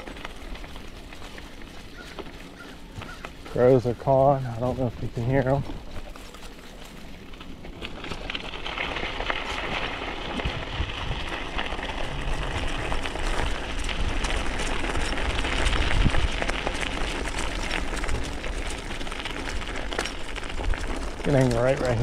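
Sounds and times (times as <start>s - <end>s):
bike tyres crackling over ground: 0.0s - 22.0s
wind rumbling on microphone: 0.0s - 22.0s.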